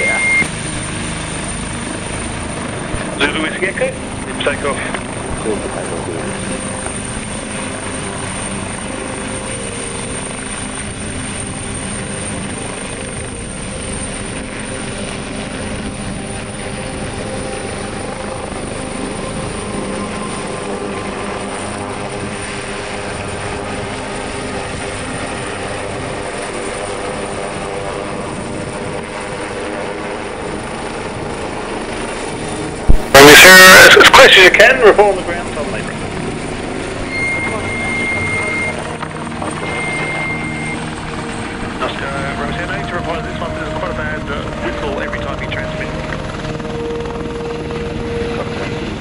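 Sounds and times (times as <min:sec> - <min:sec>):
helicopter rotor and turbine drone: 0:00.0 - 0:49.0.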